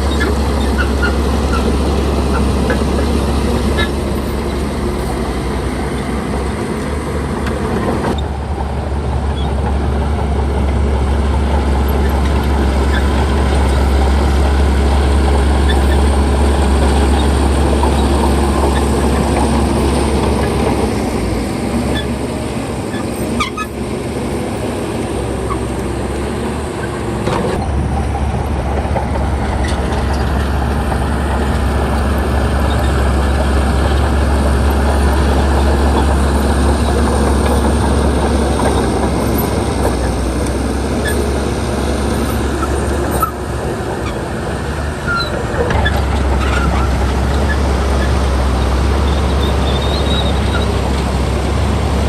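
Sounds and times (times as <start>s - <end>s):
diesel engine humming: 0.0s - 52.0s.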